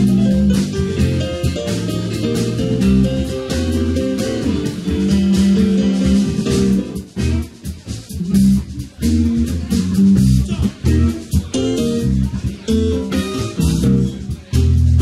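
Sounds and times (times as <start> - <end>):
deep bass line: 0.0 - 15.0
drum kit: 0.0 - 15.0
electric guitar: 0.0 - 15.0
keyboard: 0.0 - 15.0.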